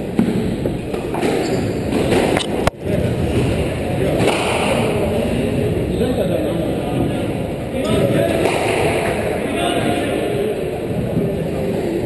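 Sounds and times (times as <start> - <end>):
murmur of spectators talking: 0.0 - 12.0.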